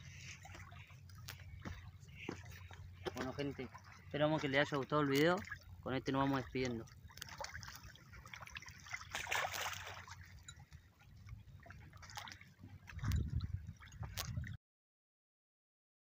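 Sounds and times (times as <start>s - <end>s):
water splashing and trickling: 0.0s - 14.6s.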